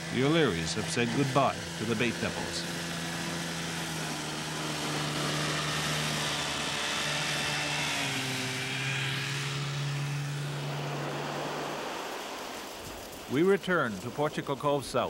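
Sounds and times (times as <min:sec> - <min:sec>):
outboard motor running: 0:00.0 - 0:14.7
hiss of wind and water: 0:00.0 - 0:15.0.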